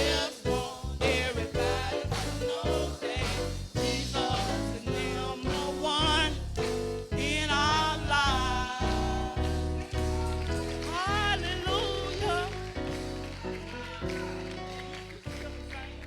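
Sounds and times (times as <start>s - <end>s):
person singing: 0.0s - 14.5s
gospel band playing: 0.0s - 16.0s.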